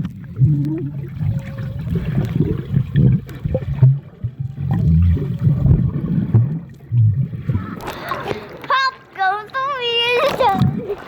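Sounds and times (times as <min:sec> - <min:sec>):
muffled water sloshing and gurgling: 0:00.0 - 0:11.0.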